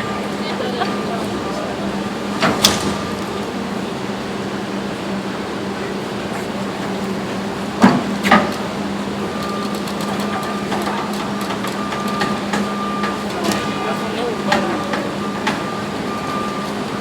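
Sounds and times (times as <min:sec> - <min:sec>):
heavy machinery humming: 0:00.0 - 0:17.0.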